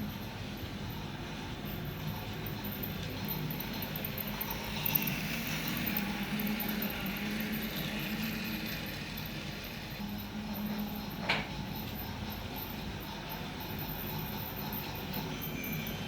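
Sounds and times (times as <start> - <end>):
wheels hissing on rails: 0.0 - 16.0.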